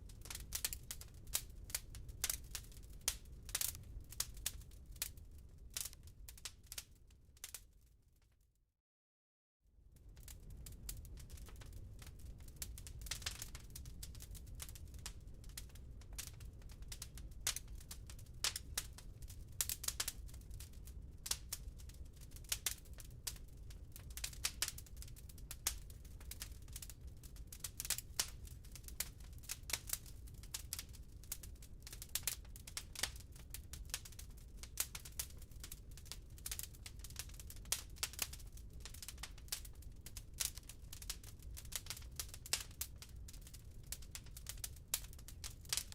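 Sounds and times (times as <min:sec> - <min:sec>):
wood fire crackling and popping: 0:00.0 - 0:07.8, 0:09.9 - 0:45.9
low rumble of fire: 0:00.0 - 0:08.2, 0:09.7 - 0:45.9.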